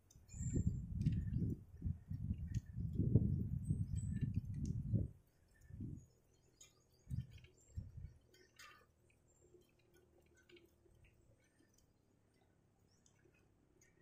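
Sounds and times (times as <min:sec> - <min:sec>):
faint ticks: 0:00.0 - 0:14.0.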